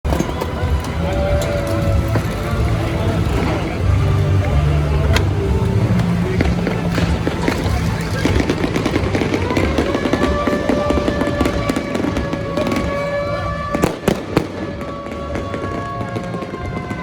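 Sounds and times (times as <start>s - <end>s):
fireworks bangs: 0.0s - 17.0s
fireworks crackling and popping: 0.0s - 17.0s.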